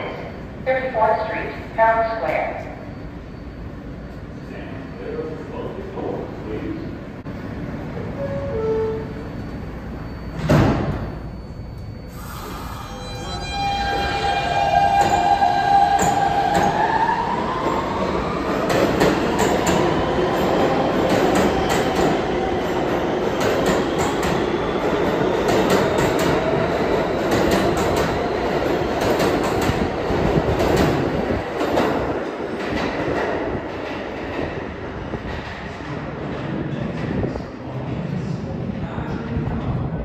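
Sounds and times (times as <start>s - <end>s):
subway train motors whining: 0.0s - 40.0s.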